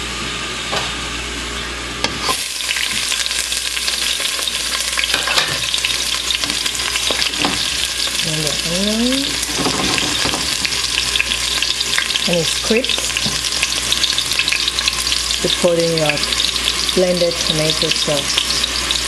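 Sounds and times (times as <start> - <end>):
onion sizzling in oil: 2.0 - 19.0.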